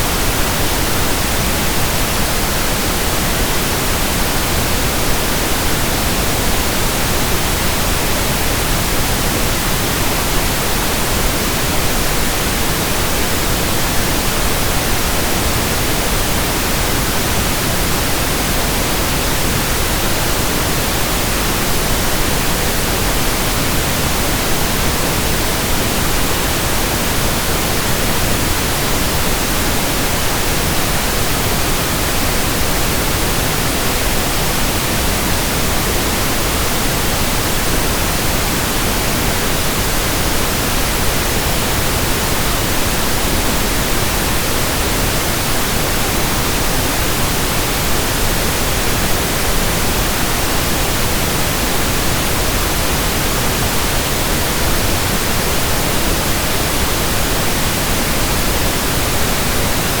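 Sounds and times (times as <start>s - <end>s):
pink noise hiss: 0.0s - 60.0s.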